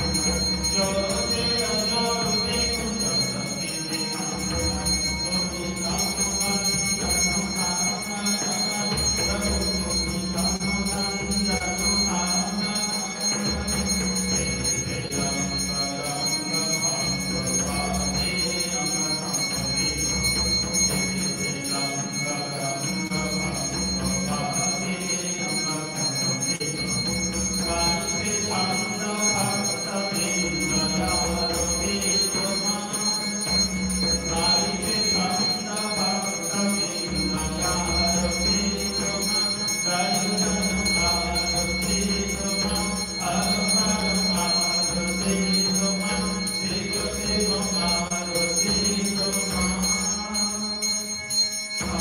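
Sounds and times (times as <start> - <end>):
hand bell ringing: 0.0 - 52.0.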